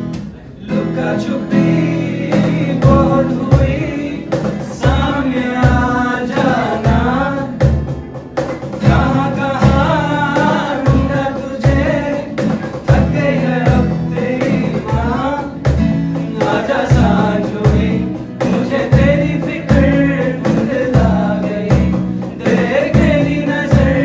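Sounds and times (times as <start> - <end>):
strummed acoustic guitar: 0.0 - 24.0
group of young men singing: 0.6 - 7.9, 8.7 - 24.0
steady beat: 1.6 - 24.0.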